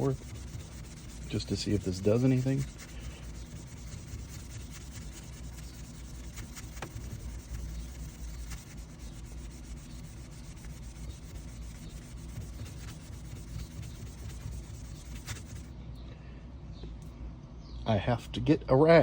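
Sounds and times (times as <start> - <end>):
foam pad rubbing on plastic screen: 0.0 - 15.7.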